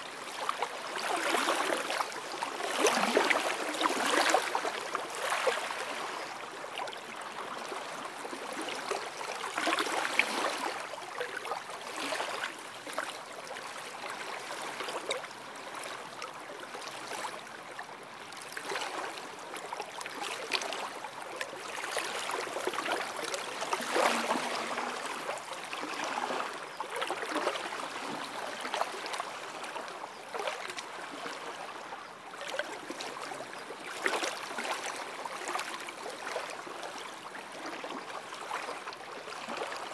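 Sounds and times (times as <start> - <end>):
waves lapping on sandy shore: 0.0 - 39.9.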